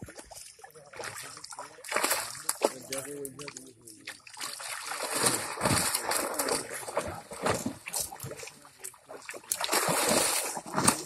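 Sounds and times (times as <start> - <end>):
fish splashing in water: 0.0 - 11.0
men wading in water: 0.0 - 11.0.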